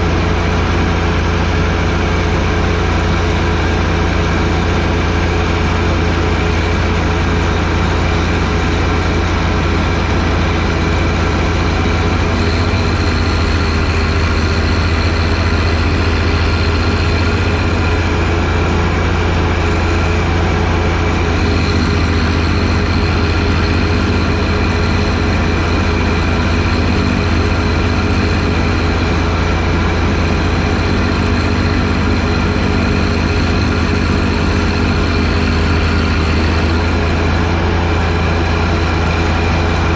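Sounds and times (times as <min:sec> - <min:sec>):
snowblower whine: 0:00.0 - 0:39.9
tractor diesel engine running: 0:00.0 - 0:39.9.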